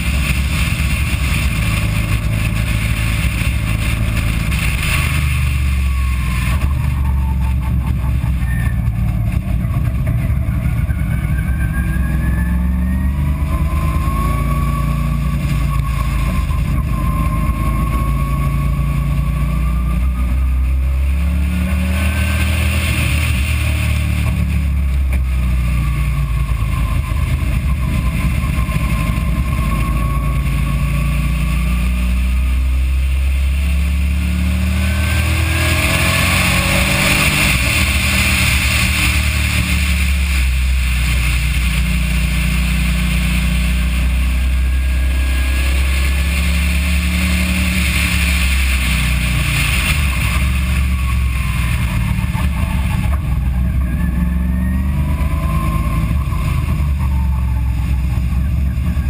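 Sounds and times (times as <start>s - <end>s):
loud rushing noise: 0.0s - 59.0s
race car engine revving: 0.0s - 59.0s.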